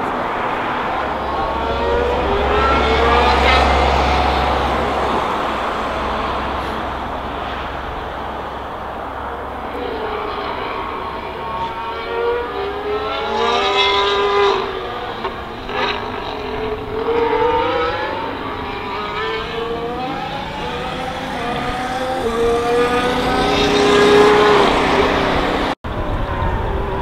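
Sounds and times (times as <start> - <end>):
racing car engines shifting gears: 0.0 - 27.0.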